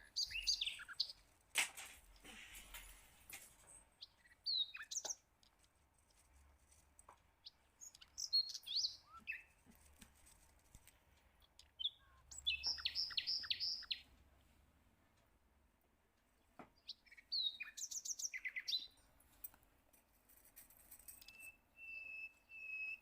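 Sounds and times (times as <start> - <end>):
small birds chirping: 0.0 - 19.8, 20.8 - 23.0.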